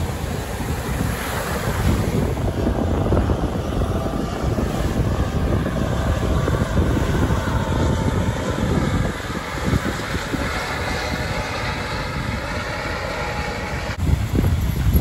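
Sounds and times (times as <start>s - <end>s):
helicopter rotor and engine: 0.0s - 15.0s
wind buffeting microphone: 0.0s - 15.0s.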